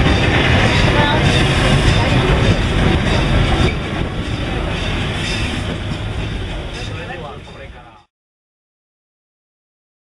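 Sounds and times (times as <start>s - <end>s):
train wheels clattering on rails: 0.0s - 8.1s.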